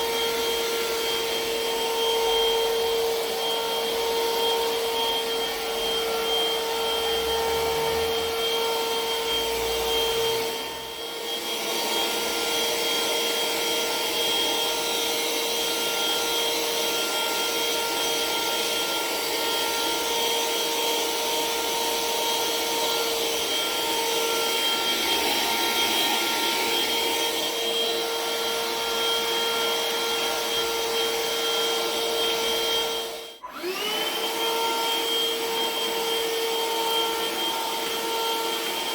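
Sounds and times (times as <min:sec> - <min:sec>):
vacuum motor whine: 0:00.0 - 0:38.9.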